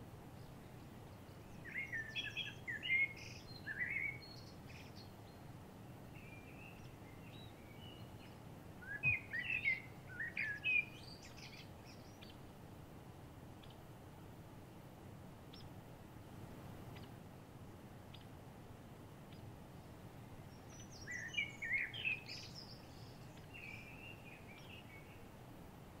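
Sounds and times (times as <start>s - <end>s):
low background rush: 0.0s - 26.0s
songbirds singing: 0.0s - 26.0s.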